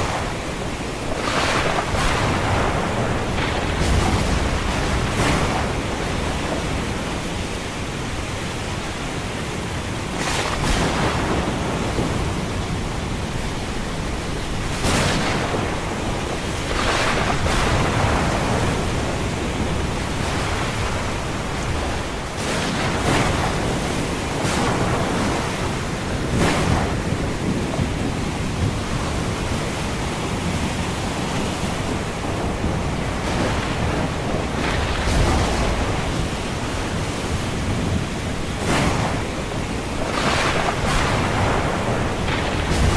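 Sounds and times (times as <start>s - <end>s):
thunder rumbling: 0.0s - 7.4s, 10.1s - 42.9s
ocean surf rushing: 0.0s - 42.9s
waves breaking: 0.0s - 42.9s.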